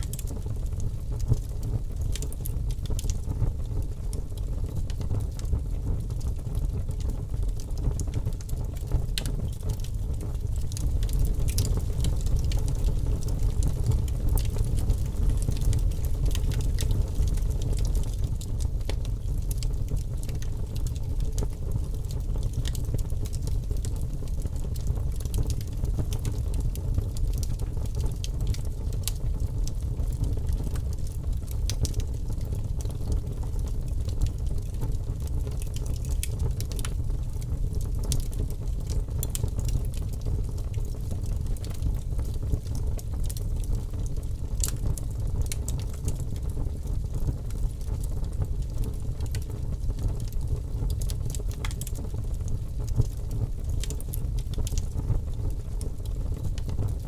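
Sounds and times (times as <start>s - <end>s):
low rumble of flames: 0.0s - 57.0s
wood crackling and popping: 0.0s - 57.0s.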